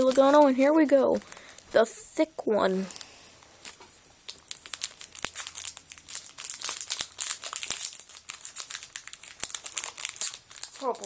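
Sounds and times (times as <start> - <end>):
card pack wrapper crinkling: 0.0 - 1.7, 2.9 - 11.0.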